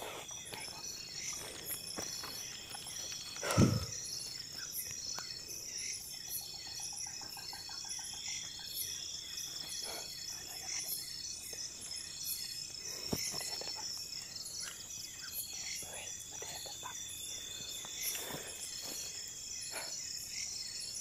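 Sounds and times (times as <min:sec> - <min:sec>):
crickets trilling: 0:00.0 - 0:21.0
lower rapid insect trill: 0:00.0 - 0:21.0.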